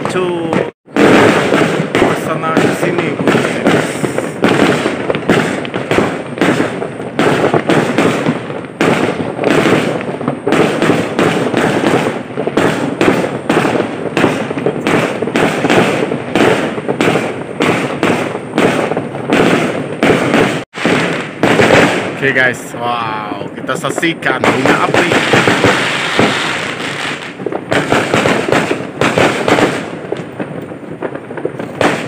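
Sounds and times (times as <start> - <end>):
fireworks and firecrackers banging: 0.0 - 32.0.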